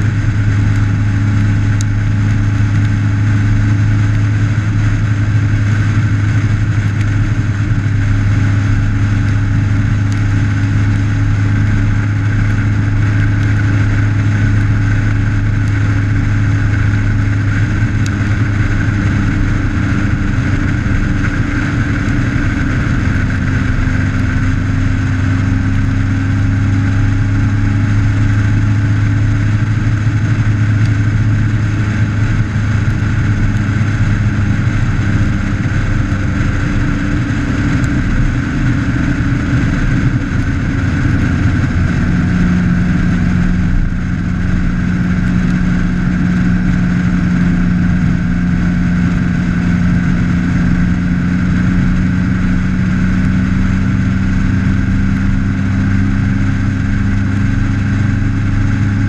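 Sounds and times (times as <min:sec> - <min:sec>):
motorcycle engine running: 0:00.0 - 0:59.0
road noise: 0:00.0 - 0:59.0
wind noise: 0:00.0 - 0:59.0.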